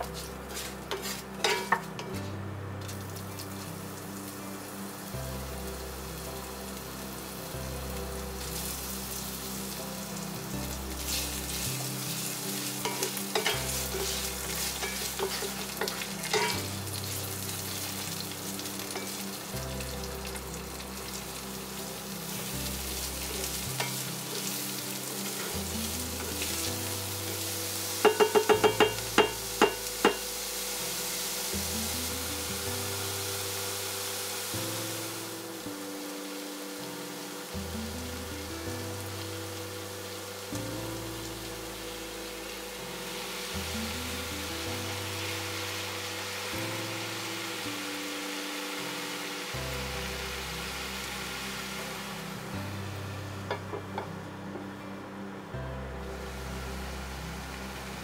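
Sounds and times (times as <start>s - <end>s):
background music with bass: 0.0s - 48.1s, 49.5s - 58.0s
spices and onions sizzling in oil: 0.0s - 58.0s.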